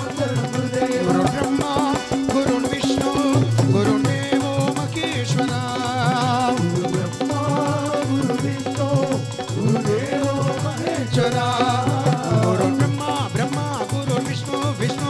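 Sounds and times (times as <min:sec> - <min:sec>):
harmonium: 0:00.0 - 0:15.0
men singing: 0:00.0 - 0:15.0
tabla and dholak drumming: 0:00.0 - 0:15.0.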